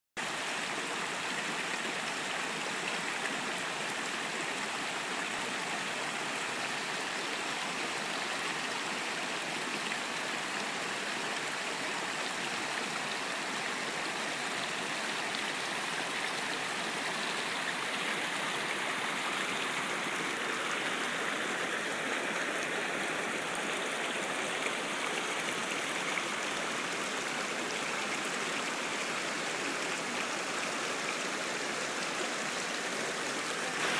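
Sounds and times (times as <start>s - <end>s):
stream flowing over rocks: 0.2s - 33.9s.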